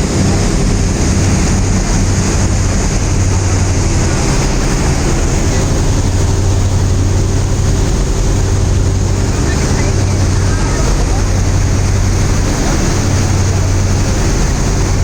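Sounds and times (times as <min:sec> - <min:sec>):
constant rushing noise: 0:00.0 - 0:15.0
low motor drone: 0:00.0 - 0:15.0.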